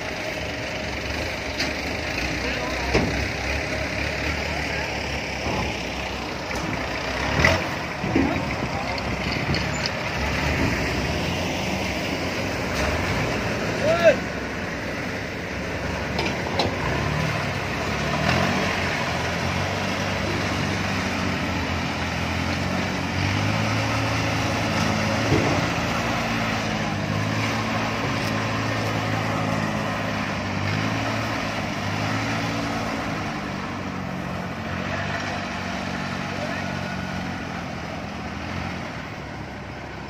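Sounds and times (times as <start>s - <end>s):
harvester diesel engines droning: 0.0s - 40.0s.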